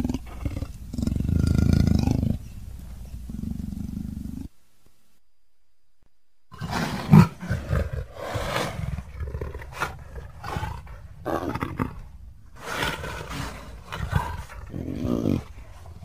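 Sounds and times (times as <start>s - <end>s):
leopard roaring and growling: 0.0s - 4.5s, 6.5s - 16.0s.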